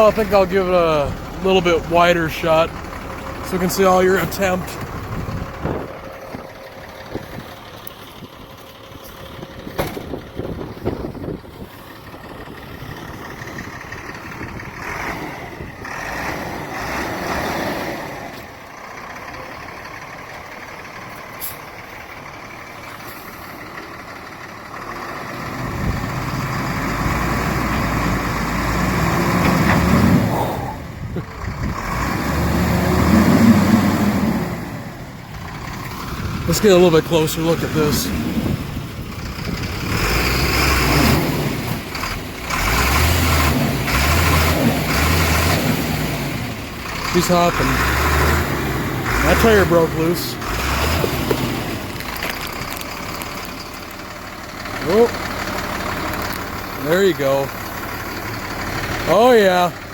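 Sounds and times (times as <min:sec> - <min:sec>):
pickup engine revving: 0:00.0 - 0:08.2, 0:12.4 - 0:18.7, 0:24.8 - 0:59.9.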